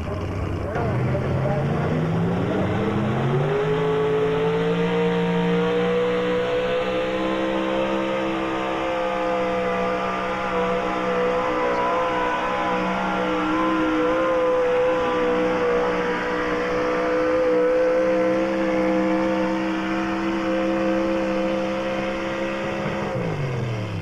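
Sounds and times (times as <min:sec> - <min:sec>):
truck engine at high revs: 0:00.0 - 0:24.0.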